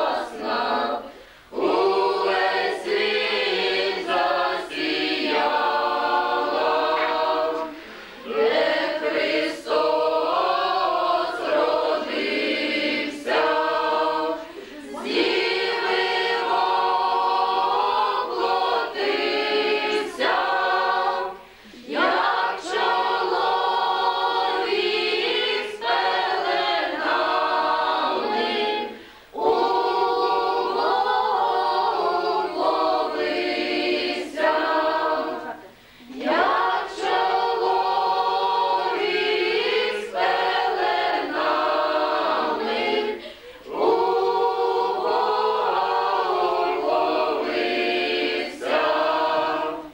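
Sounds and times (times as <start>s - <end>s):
women and girls singing a carol: 0.0s - 49.9s.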